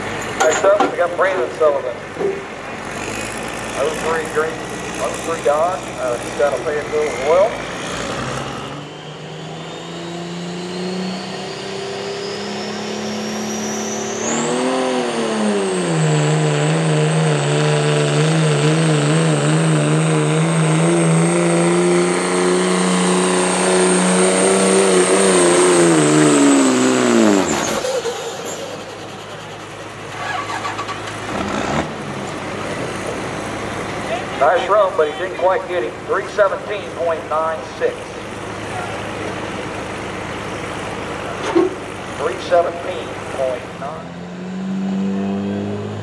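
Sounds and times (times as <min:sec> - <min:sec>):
diesel truck engine under load: 0:00.0 - 0:46.0.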